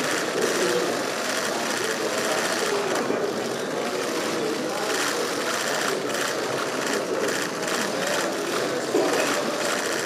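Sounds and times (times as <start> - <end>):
murmured conversation: 0.0 - 10.0.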